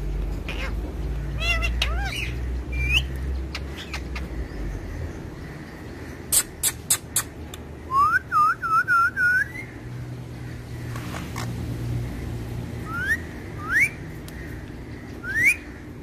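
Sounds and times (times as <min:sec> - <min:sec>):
parakeets shrieking: 0:00.3 - 0:07.5, 0:09.4 - 0:16.0.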